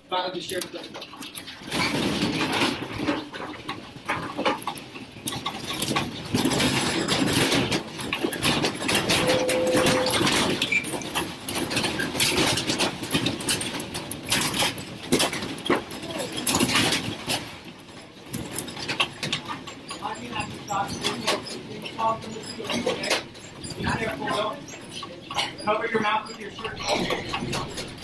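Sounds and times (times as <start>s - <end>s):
rattling and knocking of building: 0.7s - 28.0s.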